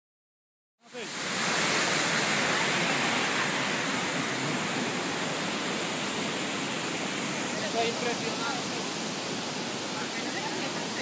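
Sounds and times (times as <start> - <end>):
heavy waterfall rushing: 0.8 - 11.0.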